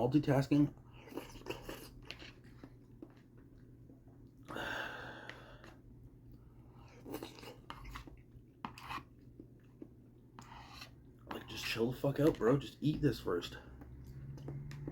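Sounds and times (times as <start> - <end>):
person chewing food: 0.8 - 14.9.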